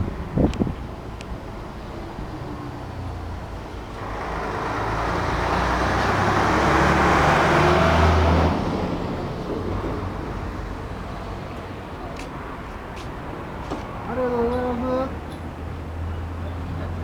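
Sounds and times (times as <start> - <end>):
vehicle passing by: 1.9 - 17.0.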